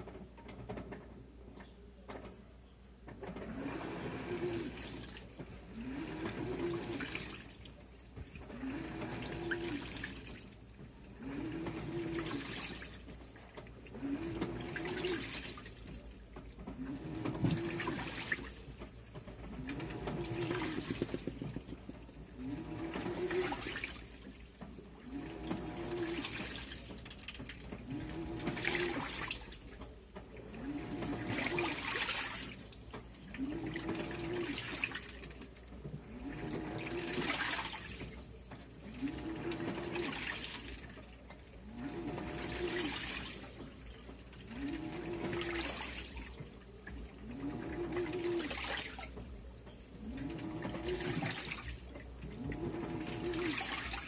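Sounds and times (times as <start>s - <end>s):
washing machine motor whir: 0.0s - 54.0s
water sloshing and churning: 3.1s - 54.0s.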